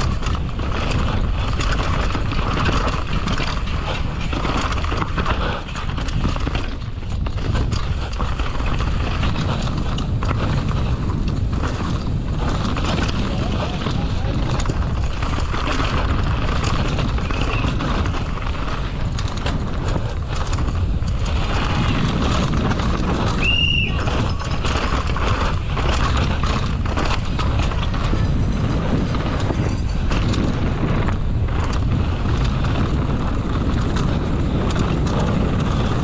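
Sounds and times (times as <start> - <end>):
bike rattling and knocking: 0.0 - 36.0
tyre rumble: 0.0 - 36.0
wind rushing over microphone: 0.0 - 36.0.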